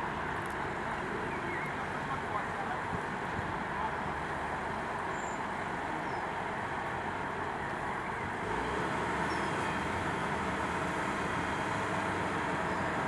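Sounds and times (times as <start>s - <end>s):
excavator diesel engine rumbling: 0.0s - 13.0s.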